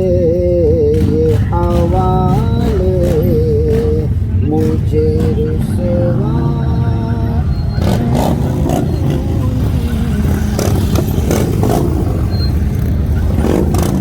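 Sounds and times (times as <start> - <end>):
car engine rumbling: 0.0 - 14.0
engine clatters: 0.0 - 14.0.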